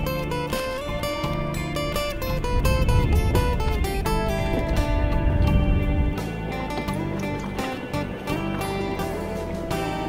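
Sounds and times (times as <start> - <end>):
guitar melody: 0.0 - 10.0
strummed acoustic guitar: 0.0 - 10.0.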